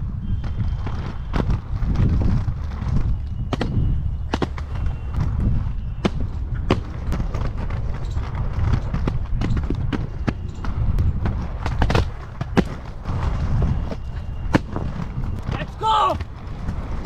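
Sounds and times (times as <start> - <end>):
inline skate wheels rolling on concrete: 0.0 - 17.0
skate wheels clacking over joints: 0.0 - 17.0.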